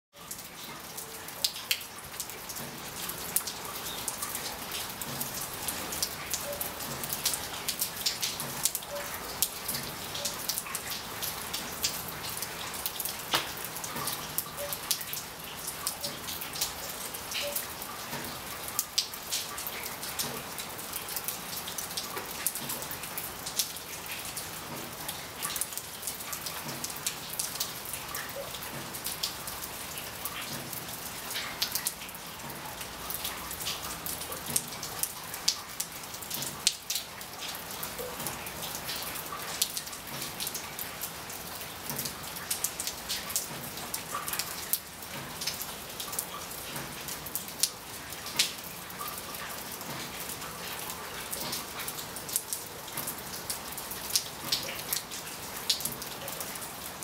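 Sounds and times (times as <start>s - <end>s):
rain drops clicking on hard surface: 0.2s - 57.0s.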